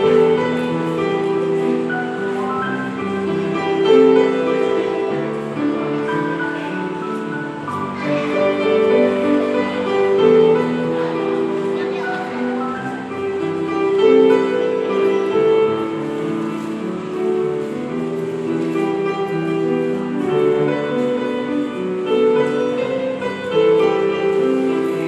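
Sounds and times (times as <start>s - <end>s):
slow piano melody: 0.0s - 25.0s.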